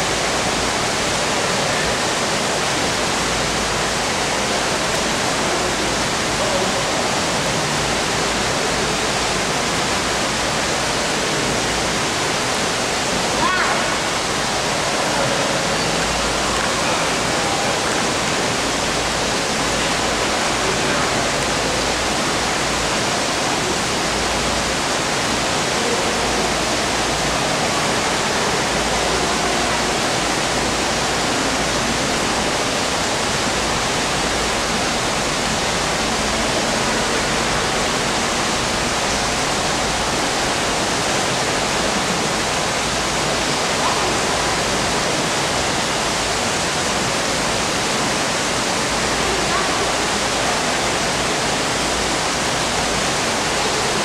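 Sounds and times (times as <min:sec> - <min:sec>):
water rushing in pool: 0:00.0 - 0:54.0.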